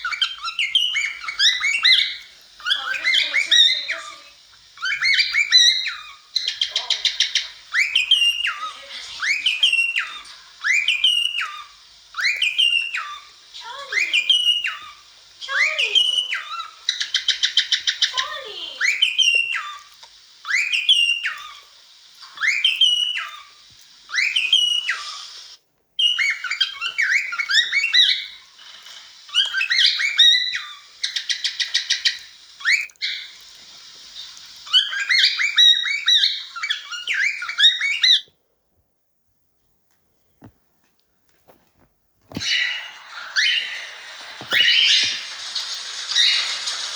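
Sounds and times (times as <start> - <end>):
cockatiel whistling song: 0.0 - 38.3, 42.3 - 46.9.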